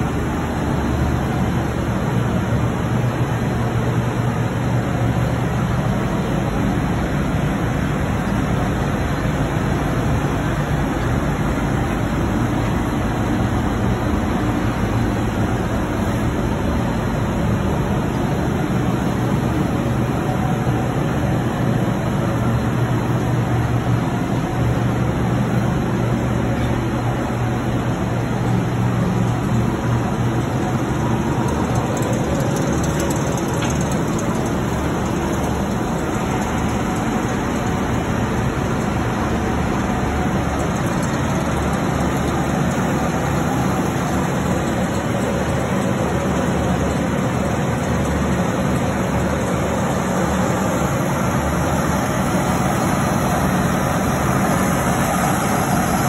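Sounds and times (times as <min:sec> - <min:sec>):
low machine hum with hiss: 0:00.0 - 0:56.0.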